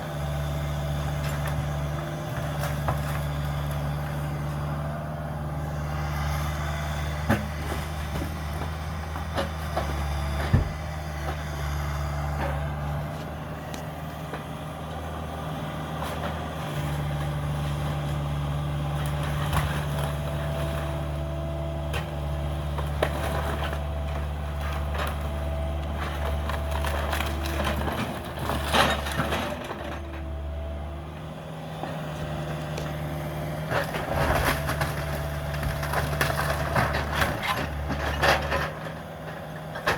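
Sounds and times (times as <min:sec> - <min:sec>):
excavator diesel engine running: 0:00.0 - 0:39.9
wood and debris cracking: 0:00.3 - 0:30.8, 0:32.0 - 0:39.9.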